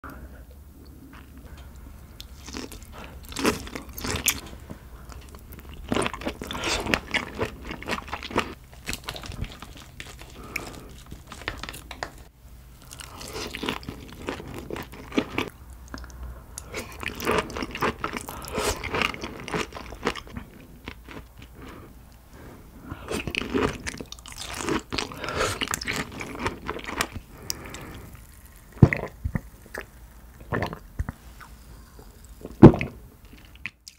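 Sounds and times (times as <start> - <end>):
crunchy chewing: 1.1 - 21.9, 22.9 - 33.9.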